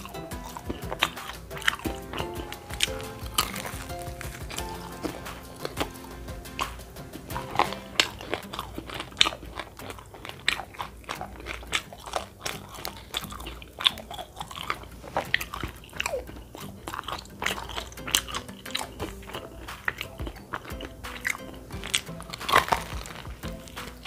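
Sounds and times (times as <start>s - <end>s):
chewing crispy food crunches: 0.0s - 24.0s
mouth clicks: 0.0s - 24.0s.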